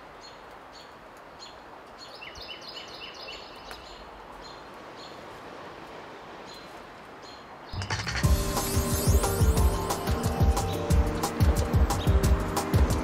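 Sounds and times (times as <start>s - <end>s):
small birds chirping: 0.0s - 5.3s, 6.4s - 13.0s
outdoor background noise: 0.0s - 13.0s.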